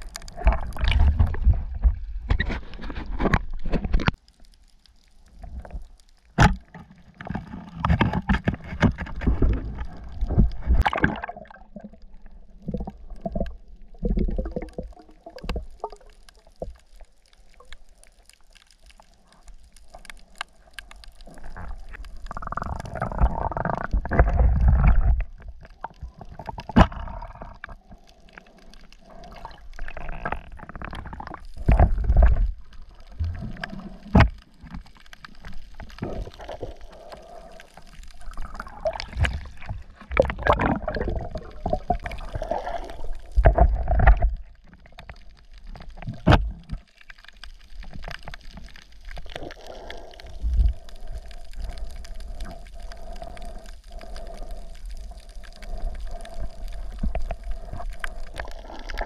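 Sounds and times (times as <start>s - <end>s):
underwater water noise: 0.0s - 59.0s.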